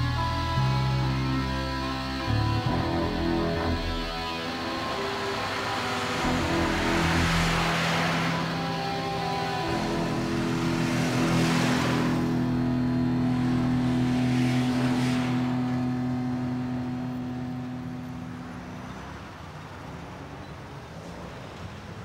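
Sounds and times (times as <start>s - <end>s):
bus engine humming: 0.0s - 22.0s.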